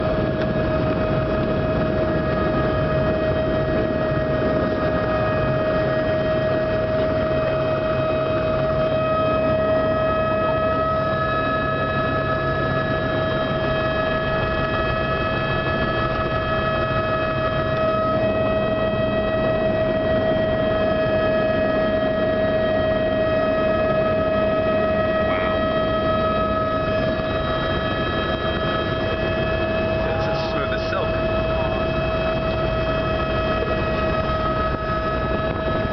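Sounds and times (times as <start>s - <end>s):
helicopter turbine whine and rotor: 0.0s - 35.9s.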